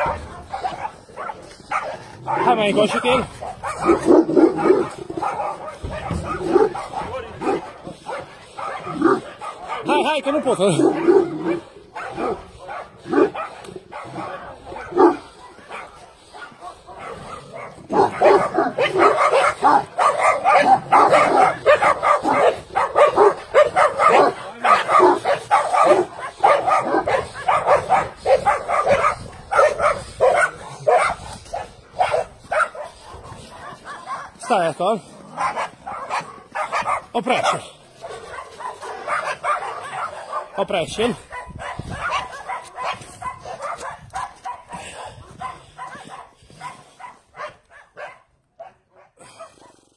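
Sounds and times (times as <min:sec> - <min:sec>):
dog barking rapidly: 0:00.0 - 0:49.9.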